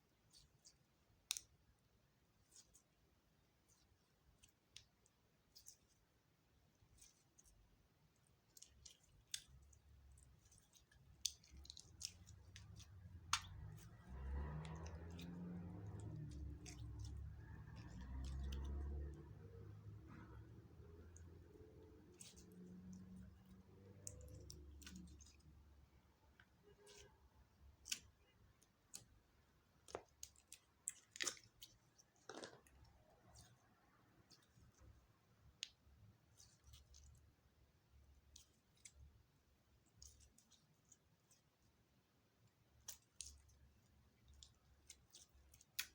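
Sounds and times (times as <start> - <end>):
slime squishing: 0.0 - 45.9.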